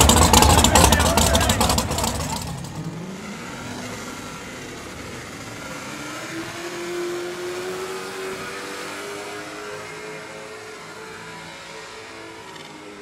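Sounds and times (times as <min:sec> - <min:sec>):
drag racing car engines revving: 0:00.0 - 0:13.0.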